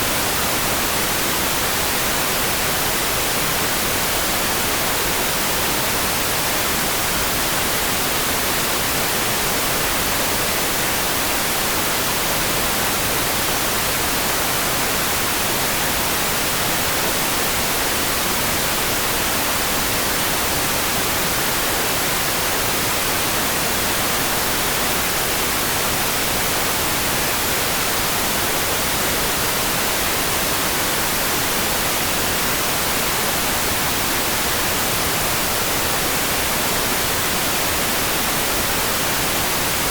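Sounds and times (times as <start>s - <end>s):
steady hiss of rain: 0.0s - 39.9s.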